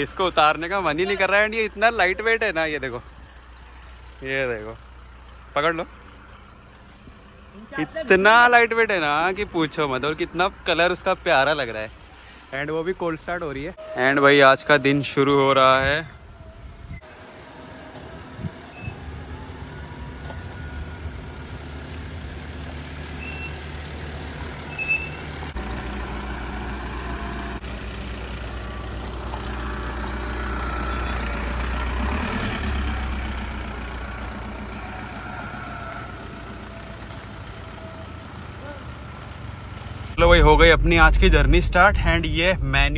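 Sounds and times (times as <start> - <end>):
diesel car engines running: 0.0 - 13.7, 15.6 - 42.9.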